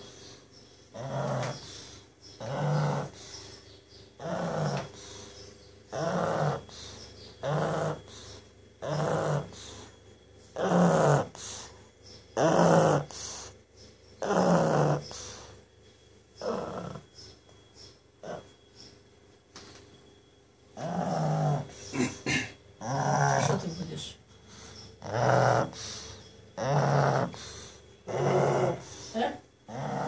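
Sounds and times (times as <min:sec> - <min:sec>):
dog snoring loudly: 0:00.0 - 0:15.7, 0:16.4 - 0:17.4, 0:18.2 - 0:18.6, 0:20.7 - 0:30.0.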